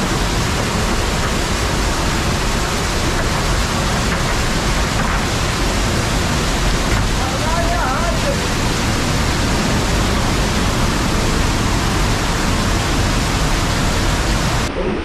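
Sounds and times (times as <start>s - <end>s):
stream rushing down cascade: 0.0s - 14.7s.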